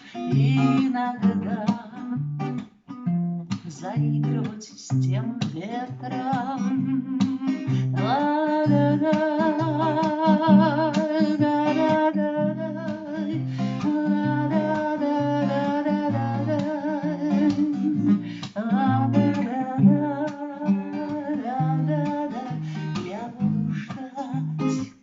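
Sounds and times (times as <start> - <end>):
woman singing wordless melody: 0.0 - 2.6, 3.6 - 25.0
strummed acoustic guitar: 0.0 - 25.0.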